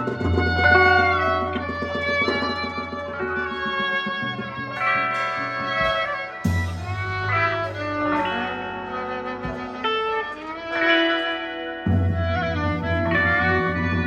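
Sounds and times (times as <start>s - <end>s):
bass guitar: 0.0s - 14.0s
electric guitar chords: 0.0s - 14.0s.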